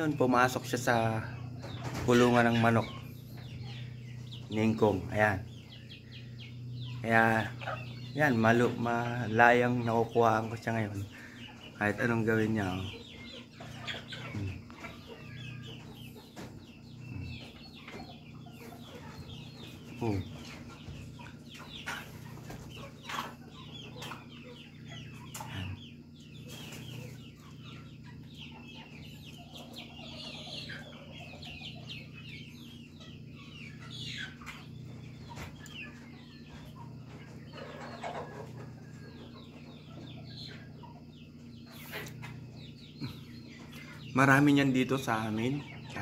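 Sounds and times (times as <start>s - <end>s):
chickens clucking: 0.0s - 46.0s.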